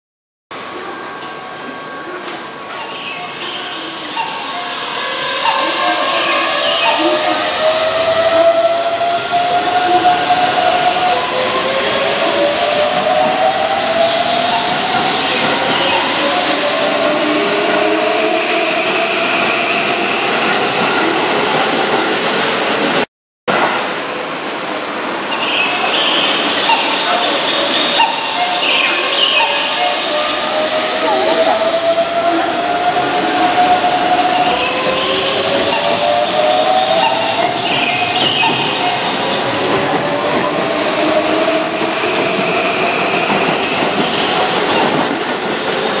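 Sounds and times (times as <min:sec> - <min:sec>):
train passing wheel and rail noise: 0:00.5 - 0:46.0.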